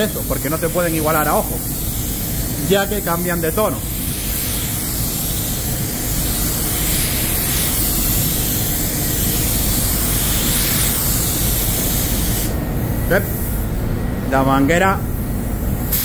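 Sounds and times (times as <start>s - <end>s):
spray gun hissing: 0.0s - 13.7s.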